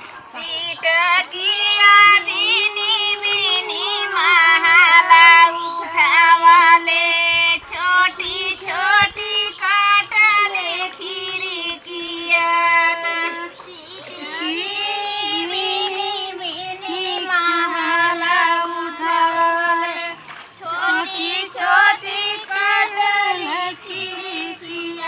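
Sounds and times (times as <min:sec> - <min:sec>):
women singing folk song: 0:00.0 - 0:25.0.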